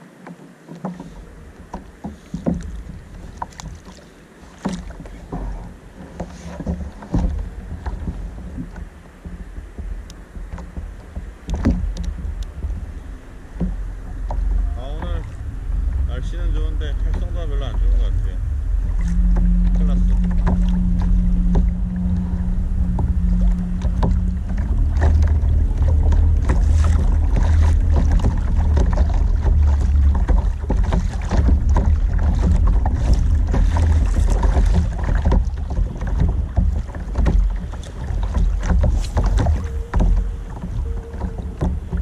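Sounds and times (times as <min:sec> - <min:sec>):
water splashing against hull: 0:00.0 - 0:42.0
wind buffeting microphone: 0:04.8 - 0:42.0.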